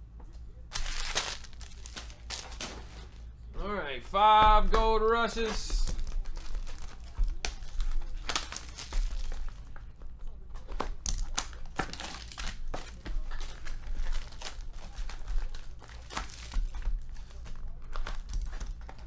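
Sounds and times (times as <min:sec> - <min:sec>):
plastic wrap and foil crinkling: 0:00.6 - 0:03.3, 0:05.4 - 0:19.0.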